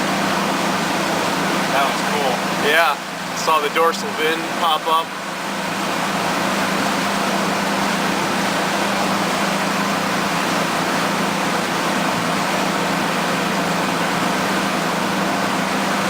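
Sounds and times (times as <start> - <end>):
motorboat engine hum: 0.0 - 16.0
rush of wind and water: 0.0 - 16.0.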